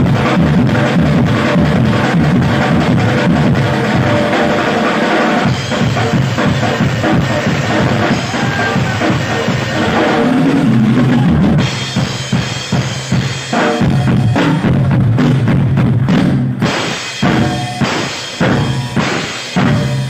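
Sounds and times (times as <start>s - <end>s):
drum kit solo: 0.0s - 20.0s.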